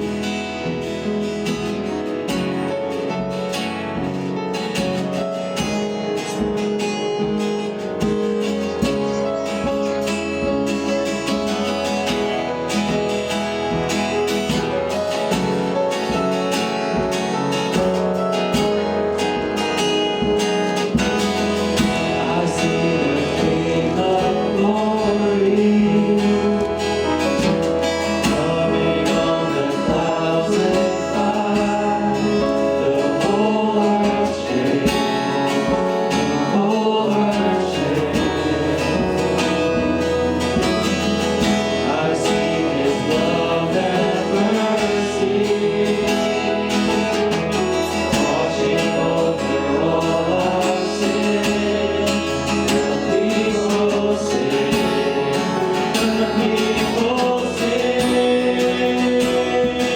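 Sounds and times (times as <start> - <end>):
group singing gospel: 0.0 - 6.6, 10.8 - 59.9
guitar: 0.0 - 59.9.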